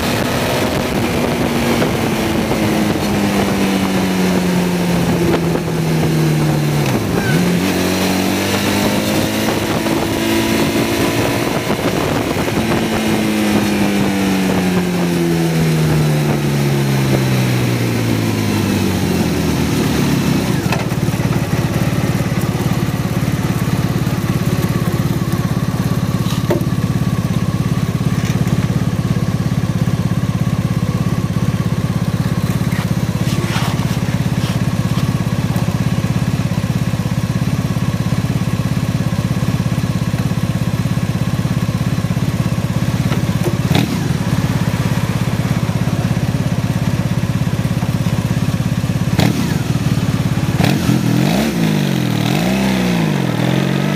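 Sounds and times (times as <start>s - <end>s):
motorcycle engine idling: 9.4s - 53.9s.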